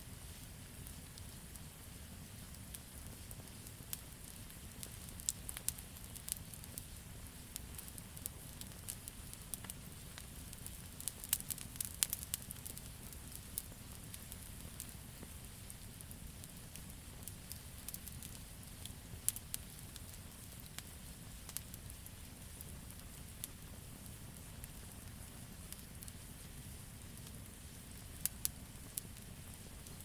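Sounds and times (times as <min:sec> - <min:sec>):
campfire crackling: 0:00.2 - 0:30.0.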